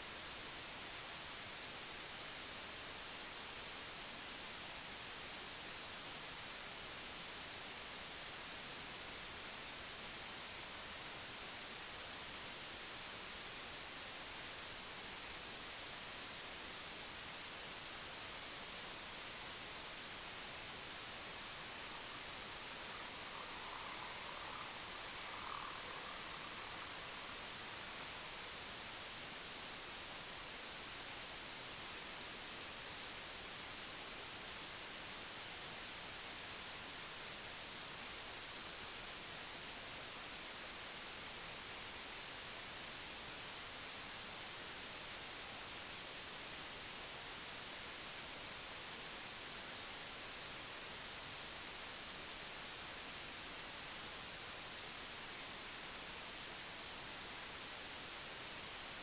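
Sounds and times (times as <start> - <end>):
static hiss: 0.0 - 59.0.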